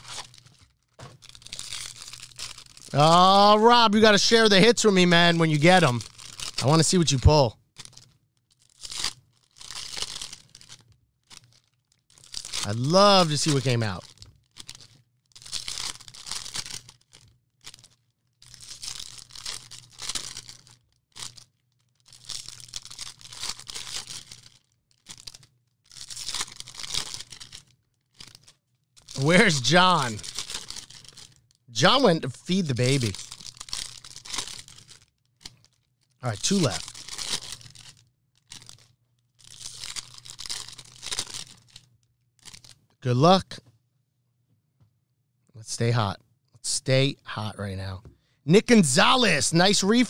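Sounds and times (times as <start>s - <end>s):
foil wrappers tearing and crinkling: 0.0s - 4.4s, 5.1s - 7.1s, 7.8s - 42.8s.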